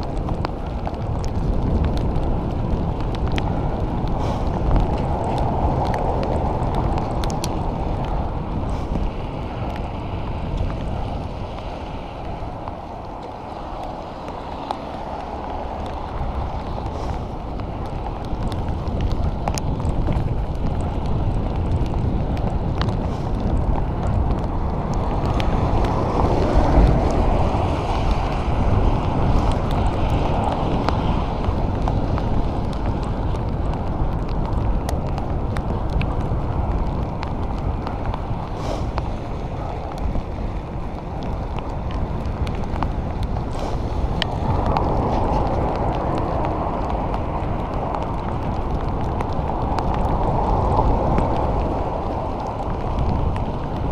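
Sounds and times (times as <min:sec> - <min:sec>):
tyres hissing on wet road: 0:00.0 - 0:53.9
wind rushing over microphone: 0:00.0 - 0:53.9.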